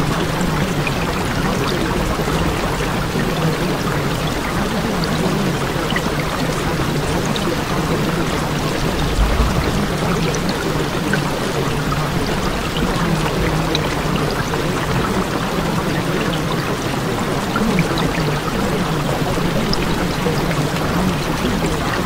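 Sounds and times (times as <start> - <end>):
running water rushing: 0.0 - 22.0
water drip ticks: 0.0 - 22.0.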